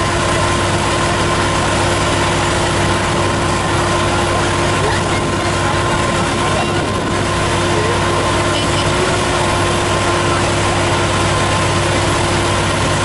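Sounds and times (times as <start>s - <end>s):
engine and pump running: 0.0s - 13.0s
water jet spray rushing: 0.0s - 13.0s.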